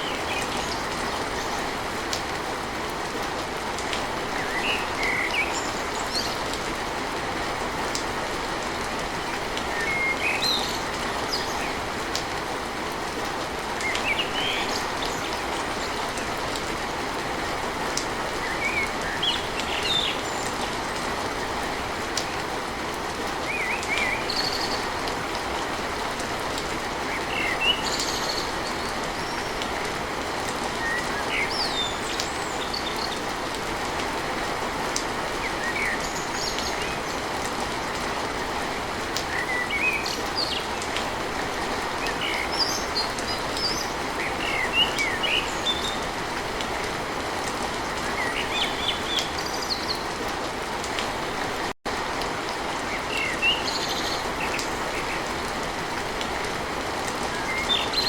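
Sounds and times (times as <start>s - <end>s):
rain drumming on a tin roof: 0.1s - 58.0s.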